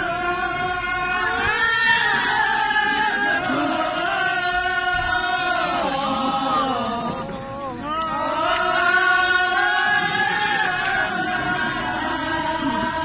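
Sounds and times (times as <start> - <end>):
voices singing together: 0.0 - 13.0.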